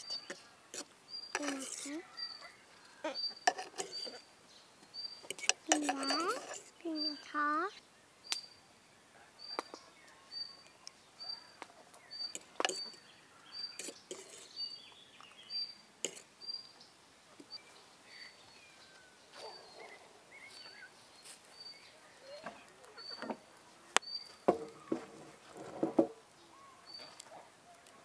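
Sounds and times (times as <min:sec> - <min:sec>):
faint sweeping calls: 0:00.0 - 0:25.0.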